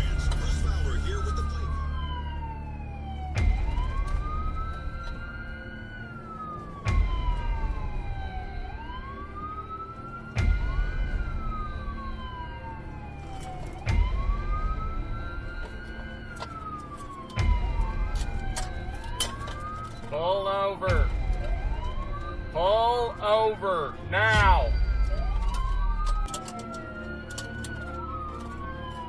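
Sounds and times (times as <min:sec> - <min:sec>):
vehicle low rumble: 0:00.0 - 0:20.2, 0:20.9 - 0:23.2, 0:23.9 - 0:29.0
police siren wailing: 0:00.0 - 0:29.0.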